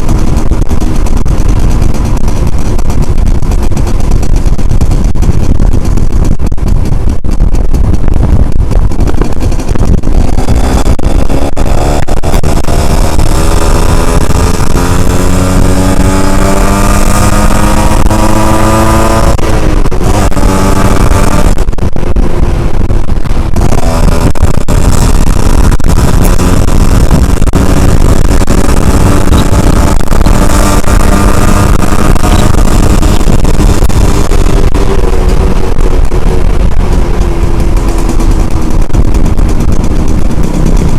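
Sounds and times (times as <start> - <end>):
two-stroke motorcycle engine: 0.0 - 40.9
wind rumble on microphone: 0.0 - 40.9.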